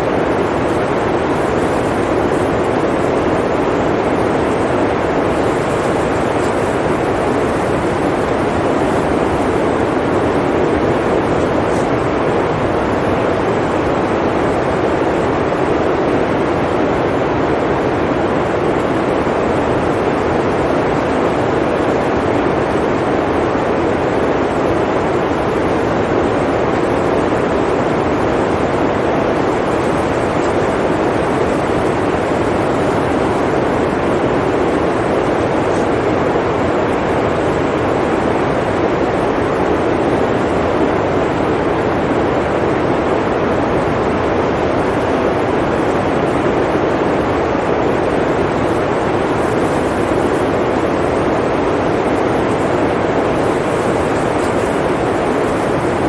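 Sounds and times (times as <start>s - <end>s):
blizzard wind rushing: 0.0s - 56.0s.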